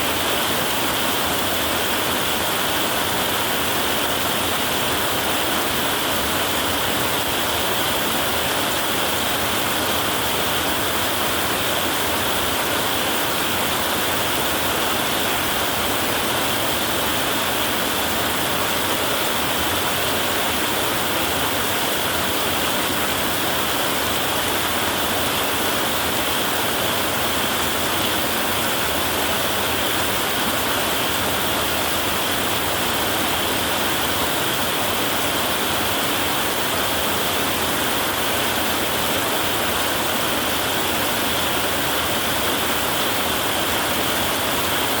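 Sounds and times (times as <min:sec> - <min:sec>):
heavy rain on a tin roof: 0:00.0 - 0:45.0.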